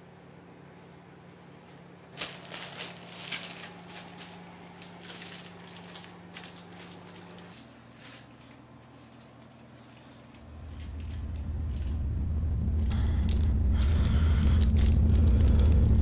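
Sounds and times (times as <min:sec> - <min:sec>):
low steady hum: 0:00.0 - 0:16.0
paper bag crinkling: 0:02.0 - 0:12.0, 0:12.7 - 0:16.0.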